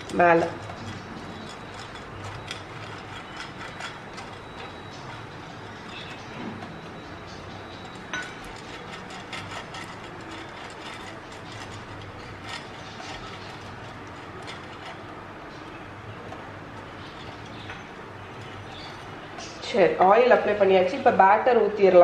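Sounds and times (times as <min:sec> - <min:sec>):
pastry brush clicking and scraping: 0:00.0 - 0:19.6.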